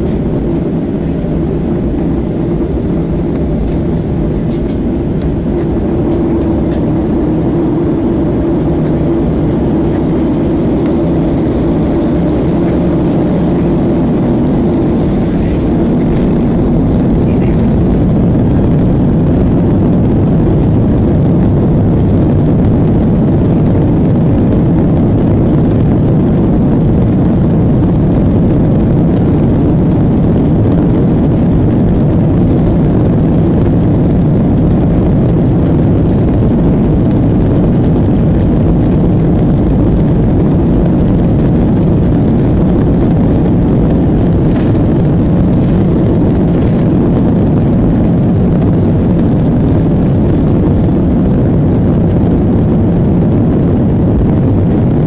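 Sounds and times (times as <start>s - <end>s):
jet engines and wheels rumbling: 0.0s - 55.0s.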